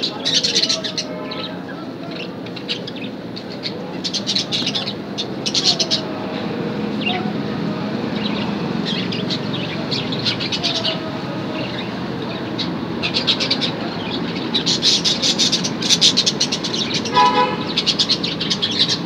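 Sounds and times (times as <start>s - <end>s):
budgerigars chirping: 0.0s - 7.4s, 8.0s - 19.0s.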